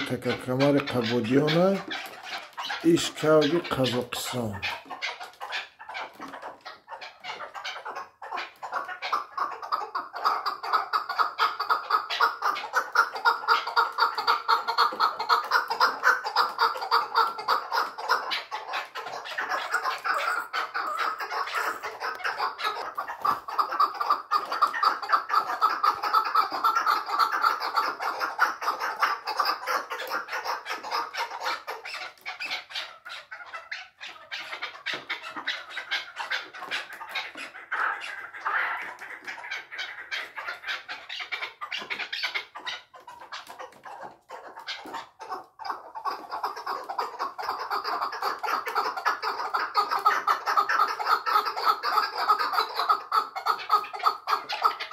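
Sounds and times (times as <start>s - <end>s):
partridge clucking: 0.0s - 54.9s.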